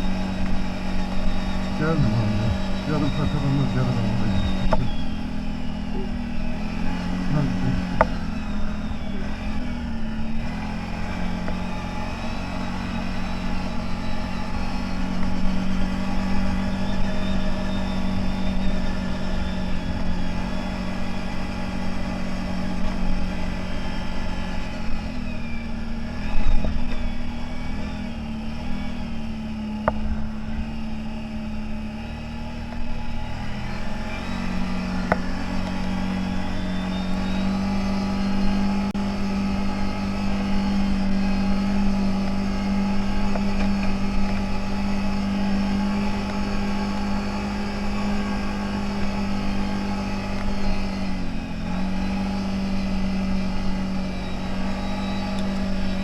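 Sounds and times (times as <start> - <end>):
high engine whine: 0.0 - 56.0
off-road vehicle engine revving: 0.0 - 56.0.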